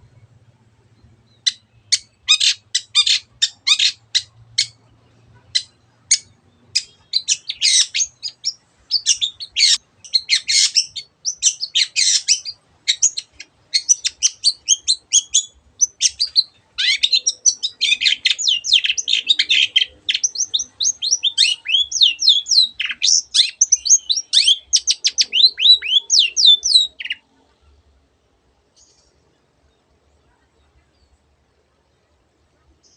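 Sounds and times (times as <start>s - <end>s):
bird singing chattering song: 0.0s - 27.5s.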